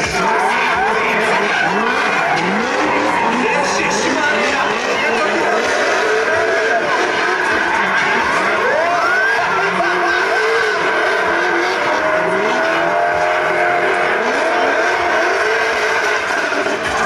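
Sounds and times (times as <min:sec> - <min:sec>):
car engines revving: 0:00.0 - 0:17.0
tyre squeal: 0:00.0 - 0:17.0.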